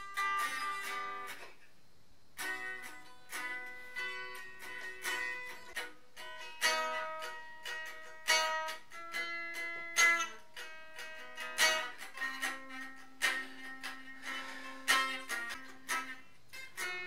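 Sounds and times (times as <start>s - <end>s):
guitar plucked slowly: 0.0s - 1.6s, 2.4s - 17.0s.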